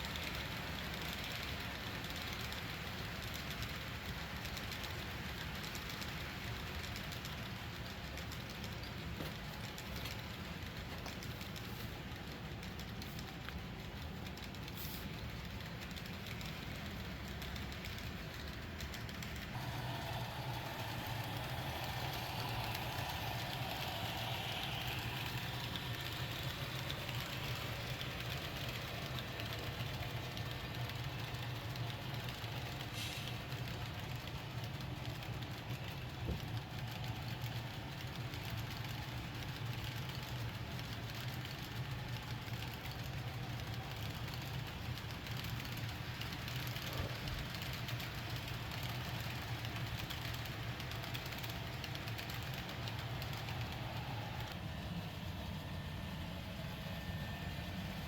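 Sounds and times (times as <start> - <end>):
diesel locomotive engine drone from speaker: 0.0 - 58.0.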